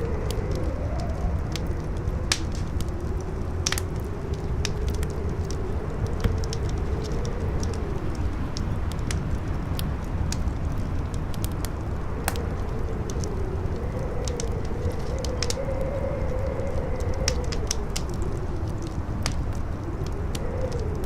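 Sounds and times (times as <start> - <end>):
campfire crackling and popping: 0.0 - 21.0
steady low rumble: 0.0 - 21.0
wind howling: 0.0 - 21.0.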